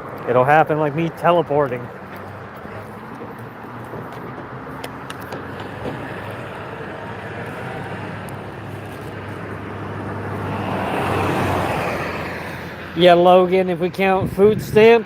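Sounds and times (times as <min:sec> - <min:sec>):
vehicle road noise with low hum: 0:00.0 - 0:15.0.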